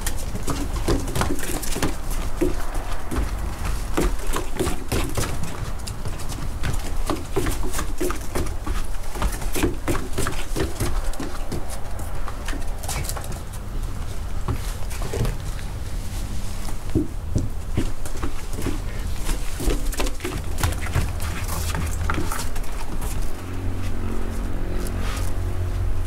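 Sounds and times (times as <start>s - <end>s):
footsteps on wooden deck: 0.0s - 25.3s
puppy paws scampering on boards: 0.0s - 25.6s.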